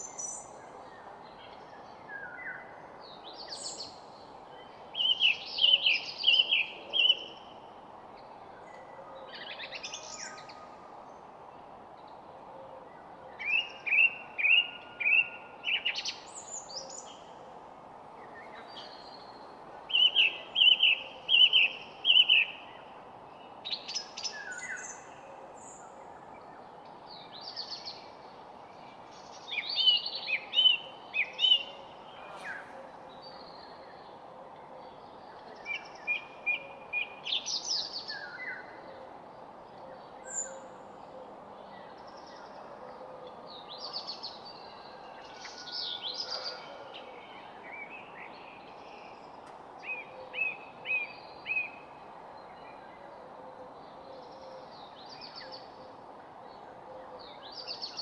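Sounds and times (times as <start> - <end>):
low background hiss: 0.0 - 58.0
songbirds singing and chirping: 0.0 - 58.0.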